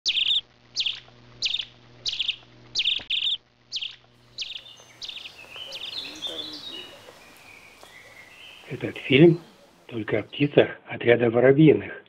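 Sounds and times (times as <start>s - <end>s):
sparrow chirping: 0.0s - 10.5s.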